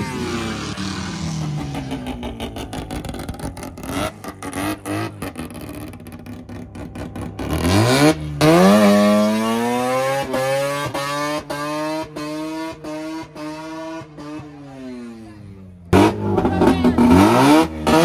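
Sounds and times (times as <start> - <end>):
engine revving stuttering: 0.0 - 14.4, 15.9 - 18.0.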